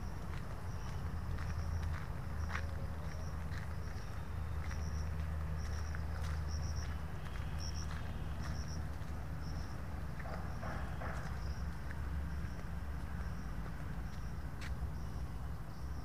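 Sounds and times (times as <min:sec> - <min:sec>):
footsteps on dirt path: 0:00.0 - 0:15.8
cricket chirping: 0:00.0 - 0:16.0.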